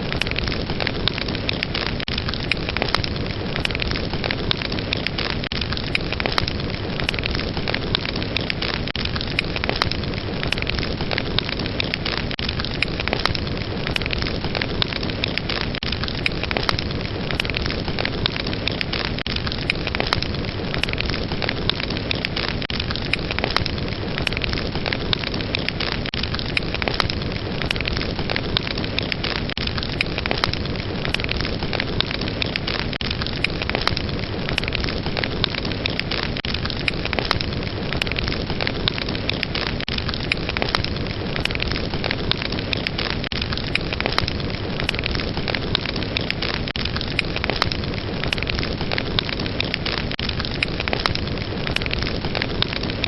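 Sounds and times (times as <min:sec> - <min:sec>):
fire burning with crackles and pops: 0:00.0 - 0:53.0.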